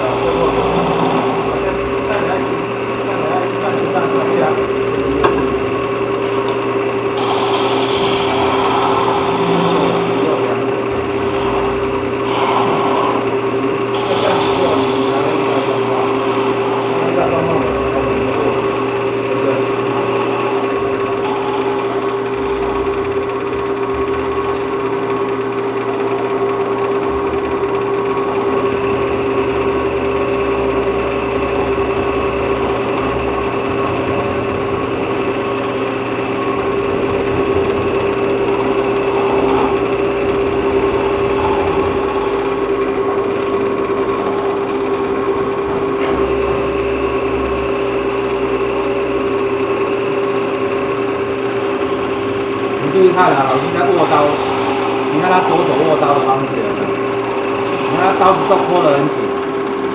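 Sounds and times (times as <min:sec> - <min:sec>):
turning tool cutting wood: 0:00.0 - 0:59.9
wood lathe humming: 0:00.0 - 0:59.9.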